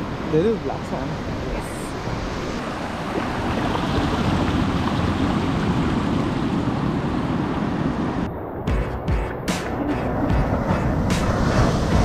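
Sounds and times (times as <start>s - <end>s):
ocean surf breaking on beach: 0.0s - 8.7s, 9.7s - 12.0s.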